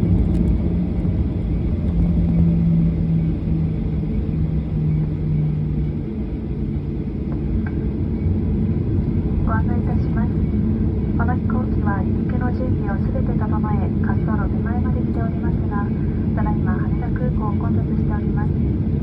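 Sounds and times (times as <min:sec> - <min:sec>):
jet engines idling: 0:00.0 - 0:19.0
low hum: 0:00.0 - 0:19.0.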